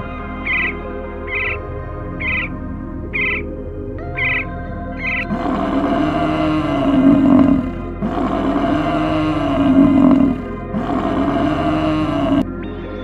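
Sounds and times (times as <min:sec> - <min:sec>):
soft background music: 0:00.0 - 0:13.0
low drawn-out animal calls: 0:00.4 - 0:01.6, 0:02.2 - 0:03.5, 0:04.2 - 0:12.4.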